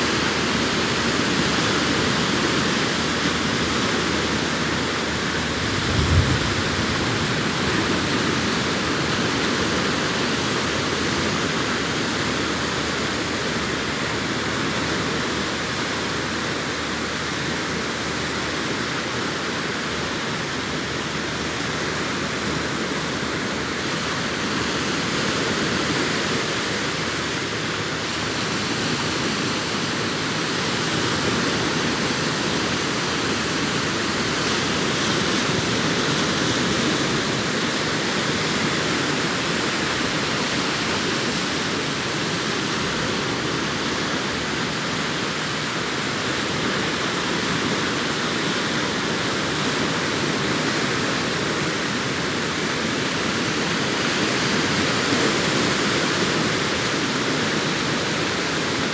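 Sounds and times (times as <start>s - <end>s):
waves breaking on beach: 0.0s - 58.9s.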